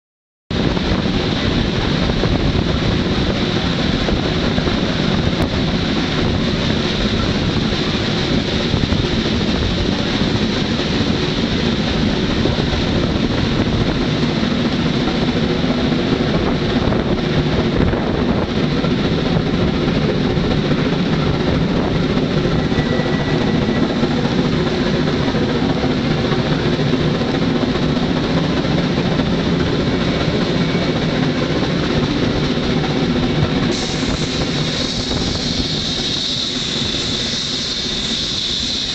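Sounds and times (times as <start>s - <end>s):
steam locomotive exhaust and running gear: 0.5s - 38.9s.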